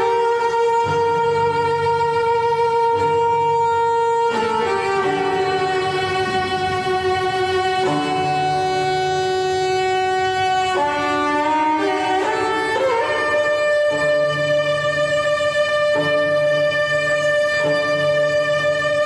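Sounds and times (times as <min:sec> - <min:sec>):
slow solo cello music: 0:00.0 - 0:19.0.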